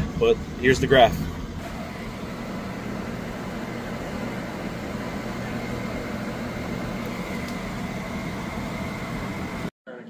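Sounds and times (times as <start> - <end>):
low mechanical hum: 0.0 - 10.0
faint high whine: 1.6 - 10.0.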